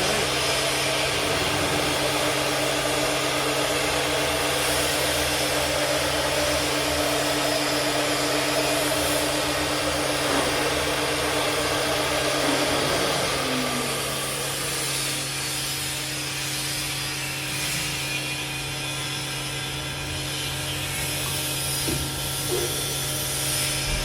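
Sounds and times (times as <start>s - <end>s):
cnc router whirring: 0.0s - 24.0s.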